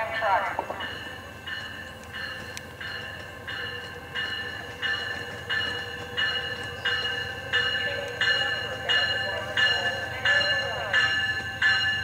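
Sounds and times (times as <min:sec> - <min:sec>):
low rumble of train: 0:00.0 - 0:12.0
train bell ringing: 0:00.0 - 0:12.0.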